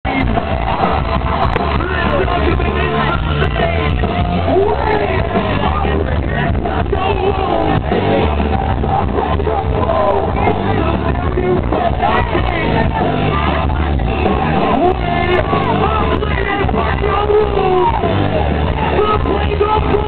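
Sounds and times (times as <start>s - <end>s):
crowd shouting: 0.0s - 20.0s
live rock band playing: 0.0s - 20.0s
person singing: 1.5s - 20.0s.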